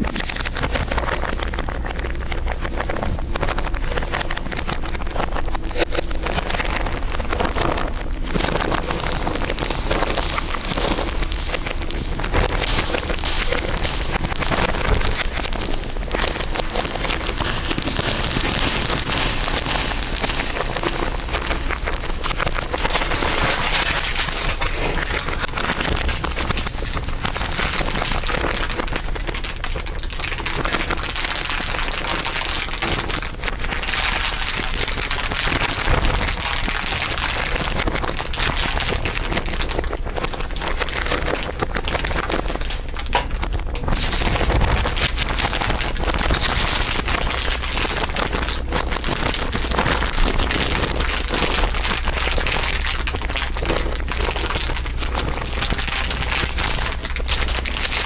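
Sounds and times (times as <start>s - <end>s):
dense crinkling: 0.0s - 58.0s.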